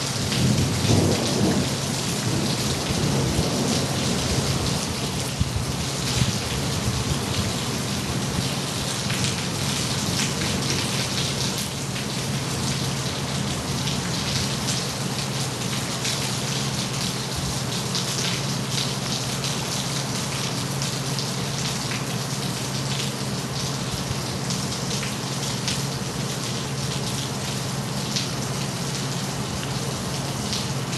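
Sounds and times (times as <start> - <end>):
rain on hard surface: 0.0 - 30.9.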